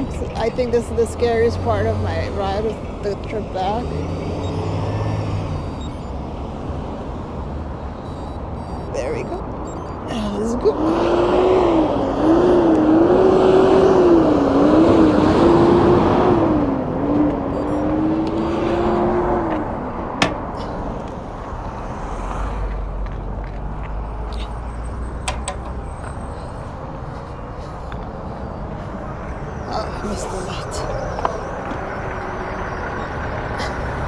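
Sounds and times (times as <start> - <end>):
electric motor whining: 0.0 - 22.8, 24.6 - 34.0.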